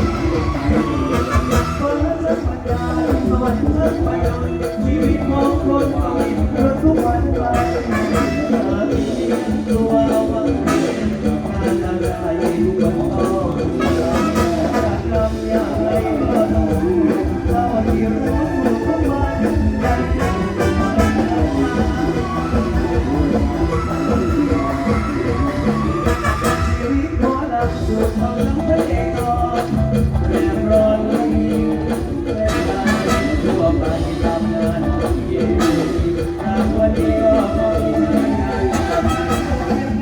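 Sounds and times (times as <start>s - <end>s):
loud folk music with drum beat: 0.0s - 40.0s
person singing: 0.0s - 40.0s.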